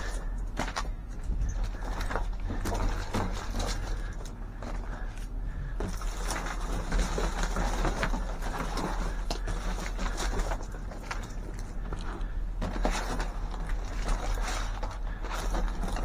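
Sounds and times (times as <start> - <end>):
rustling of items: 0.0 - 16.0.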